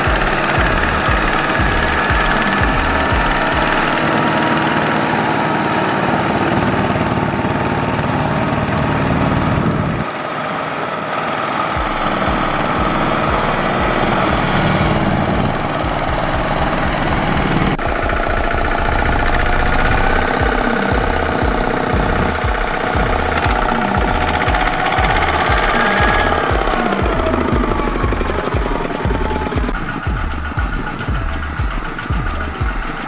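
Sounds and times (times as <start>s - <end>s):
diesel engine thudding: 0.0s - 33.0s.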